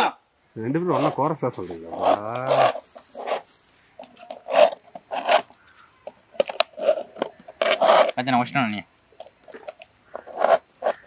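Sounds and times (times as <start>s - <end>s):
plastic cups scraping and rubbing: 0.8s - 11.0s.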